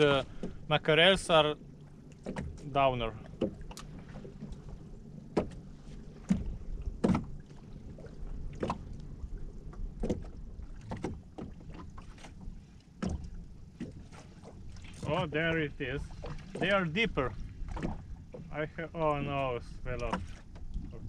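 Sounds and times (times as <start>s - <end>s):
low rumble: 0.0s - 21.0s
waves slapping against boat hull: 0.0s - 21.0s.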